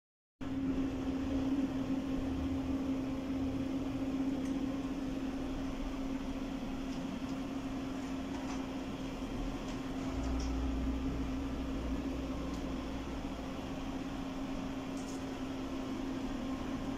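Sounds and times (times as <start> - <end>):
machine humming: 0.4 - 16.9.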